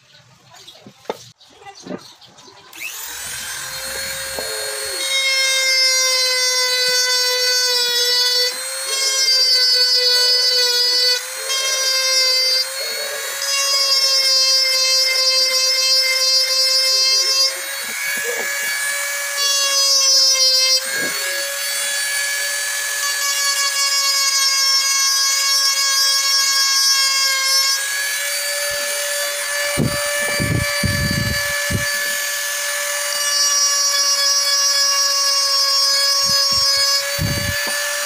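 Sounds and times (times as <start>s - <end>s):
bit grinding wood: 0.9s - 38.0s
rotary tool whining: 2.7s - 38.0s.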